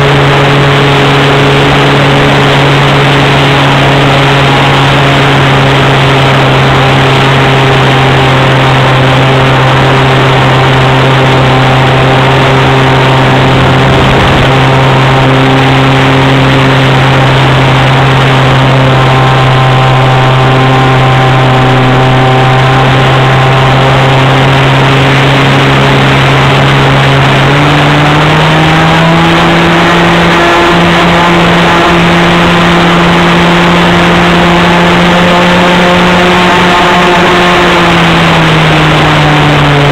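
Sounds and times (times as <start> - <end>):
model plane engine running hard: 0.0 - 39.9.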